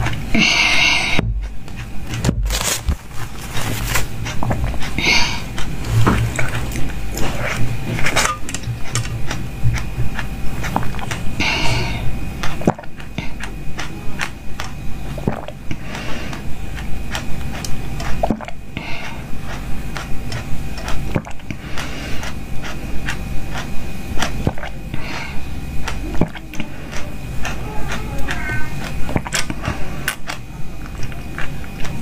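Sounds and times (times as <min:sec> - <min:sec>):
person gulping and swallowing: 0:00.0 - 0:27.6
liquid slurping: 0:00.0 - 0:32.0.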